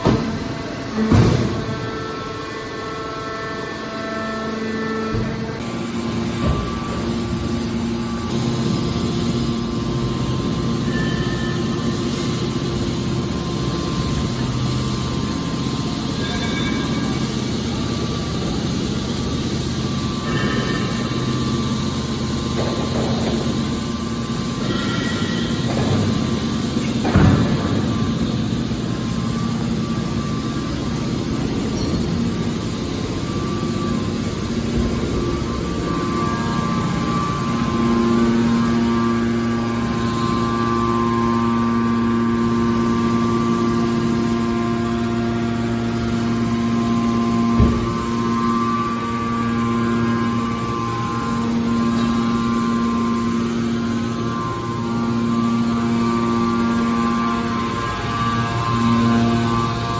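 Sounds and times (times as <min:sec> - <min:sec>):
hydraulic baler machine drone: 0:00.0 - 0:59.9.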